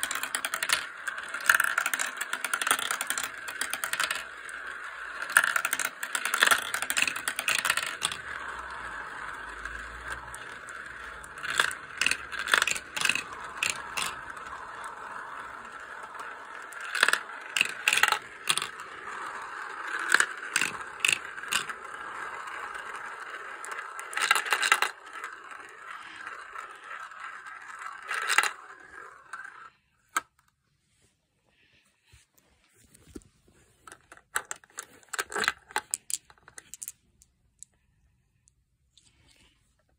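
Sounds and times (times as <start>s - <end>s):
marbles clicking together: 0.0s - 29.7s, 34.4s - 37.0s
marbles rolling in plastic bowls: 0.0s - 30.4s, 33.8s - 39.5s.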